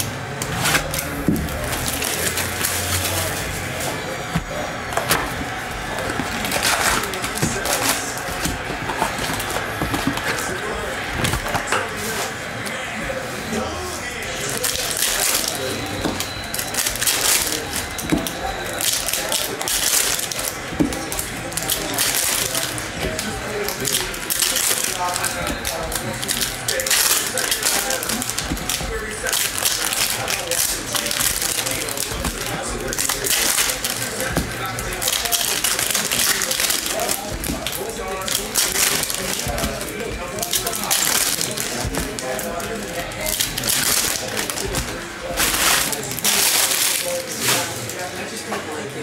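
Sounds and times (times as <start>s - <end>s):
wrappers crinkling and tearing: 0.0s - 12.4s, 14.2s - 48.3s
cardboard rustling and scraping: 0.4s - 12.4s, 14.5s - 47.9s.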